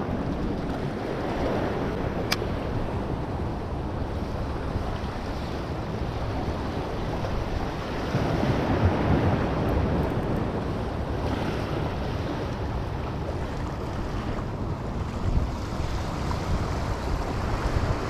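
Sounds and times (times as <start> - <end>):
surf washing against rocks: 0.0 - 18.0
wind rumbling on microphone: 0.0 - 18.0.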